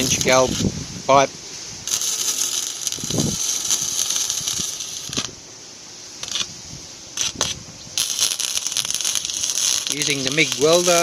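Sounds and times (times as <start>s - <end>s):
welder arc crackling: 0.0s - 1.2s, 1.8s - 5.4s, 6.2s - 6.5s, 7.2s - 11.0s.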